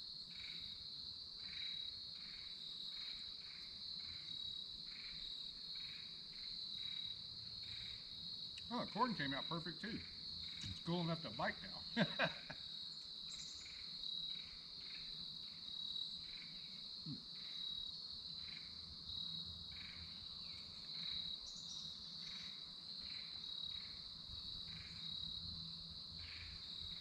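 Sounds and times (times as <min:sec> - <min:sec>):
crickets trilling: 0:00.0 - 0:27.0
lower insect chirp: 0:00.0 - 0:27.0.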